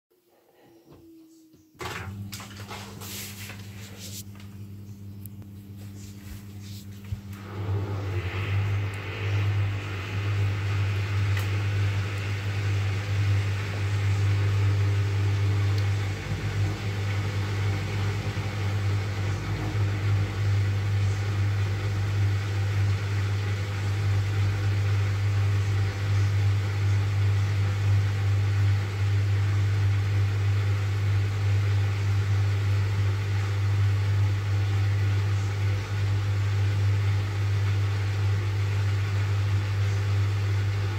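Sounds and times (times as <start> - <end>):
washing machine drain pump humming: 0.8 - 40.9.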